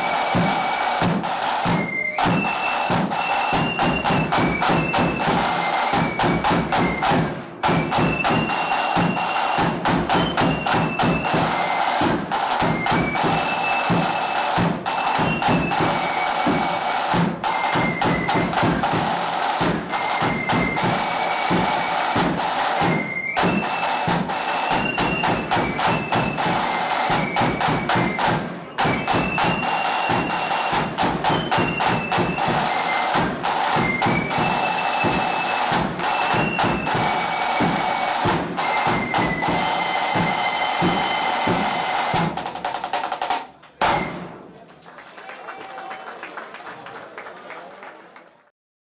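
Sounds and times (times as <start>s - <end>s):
flutes playing melody: 0.0s - 42.4s
rapid snare drumming: 0.0s - 44.5s.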